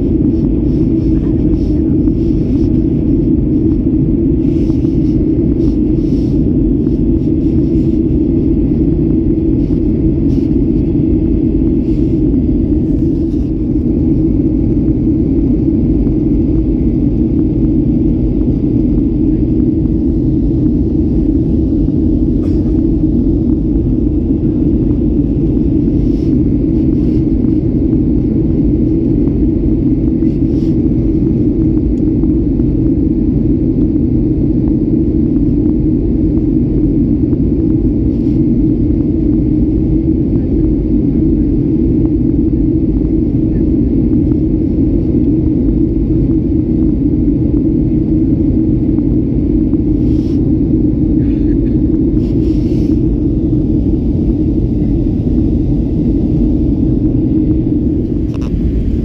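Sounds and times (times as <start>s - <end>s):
air rushing over fuselage: 0.0s - 59.0s
jet engine rumble: 0.0s - 59.0s.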